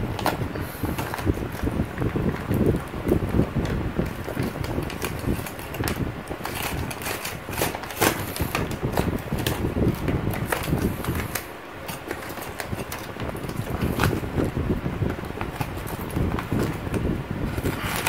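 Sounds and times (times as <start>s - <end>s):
bubble wrap and paper crinkling: 0.0s - 18.0s.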